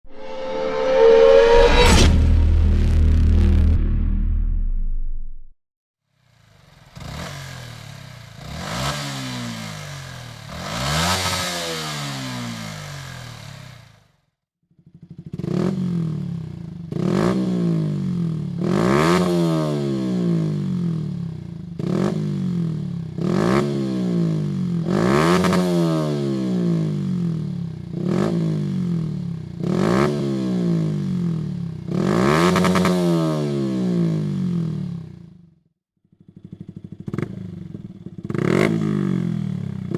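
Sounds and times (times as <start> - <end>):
motorcycle engine revving: 6.2 - 14.1, 14.8 - 35.4, 36.2 - 39.9.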